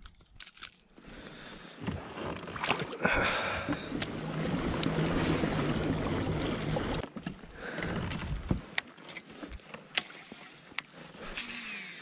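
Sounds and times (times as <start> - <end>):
water rushing along kayak hull: 1.2 - 11.4.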